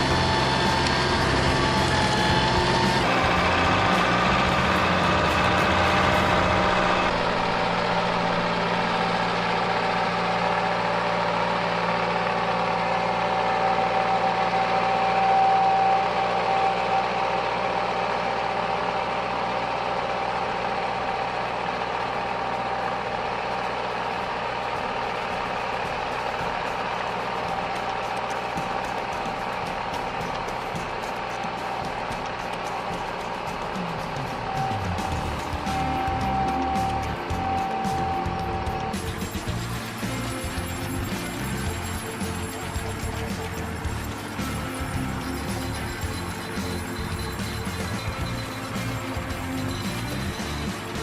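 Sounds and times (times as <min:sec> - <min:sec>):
machine engine rumble: 0:00.0 - 0:51.0.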